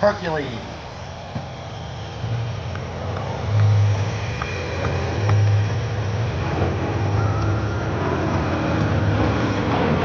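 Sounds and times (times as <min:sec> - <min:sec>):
turboprop aircraft droning: 0:00.0 - 0:10.0.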